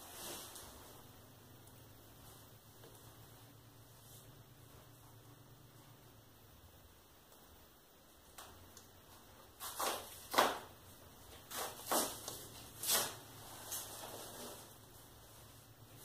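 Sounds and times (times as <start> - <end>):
wood stove fire crackling: 0.0 - 16.0.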